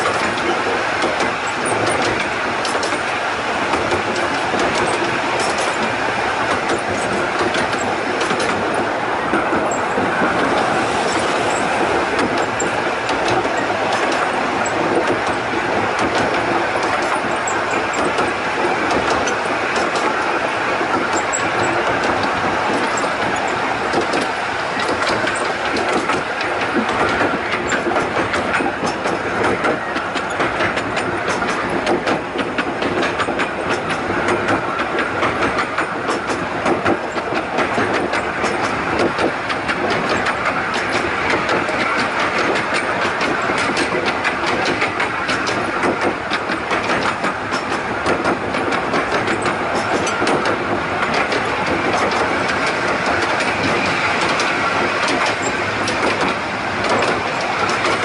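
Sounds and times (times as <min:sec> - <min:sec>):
train carriages rumbling: 0:00.0 - 0:58.0
wheels clicking over rail joints: 0:00.0 - 0:58.0.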